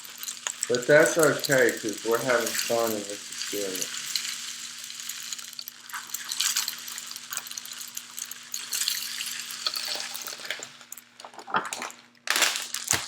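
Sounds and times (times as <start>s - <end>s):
birdseed pouring and rattling: 0.0s - 11.2s, 12.3s - 13.0s.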